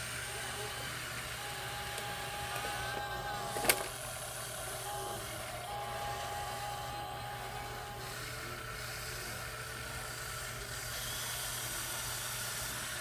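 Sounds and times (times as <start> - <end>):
toy truck engine sound idling: 0.0 - 13.0.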